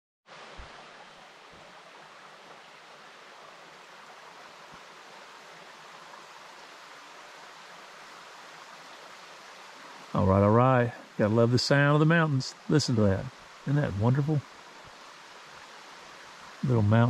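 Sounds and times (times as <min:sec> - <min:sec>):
creek water rushing: 0:00.3 - 0:17.0.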